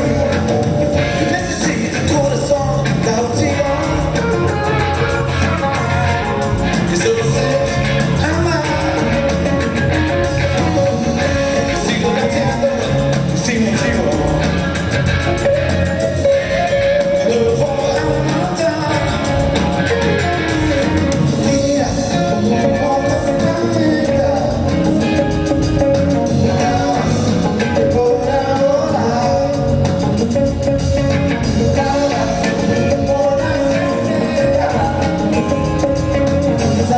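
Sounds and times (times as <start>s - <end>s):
person singing: 0.0s - 14.8s, 15.4s - 30.3s, 30.9s - 36.9s
electric guitar: 0.0s - 36.9s
keyboard: 0.0s - 36.9s
live rock band playing: 0.0s - 36.9s
steady drum beat: 0.0s - 36.9s.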